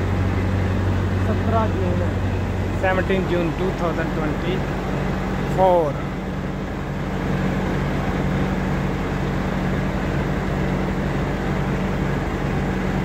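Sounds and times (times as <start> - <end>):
diesel machinery engine hum: 0.0 - 13.0.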